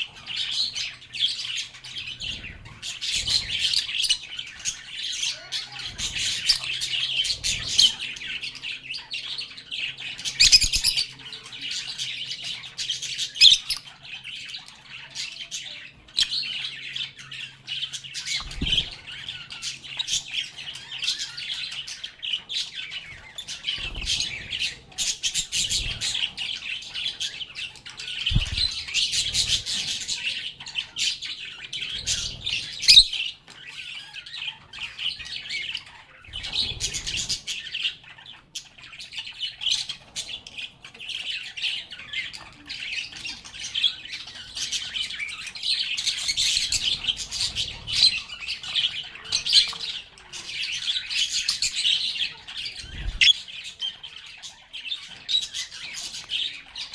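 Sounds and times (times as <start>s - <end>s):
lovebirds chattering and squawking: 0.0s - 56.9s.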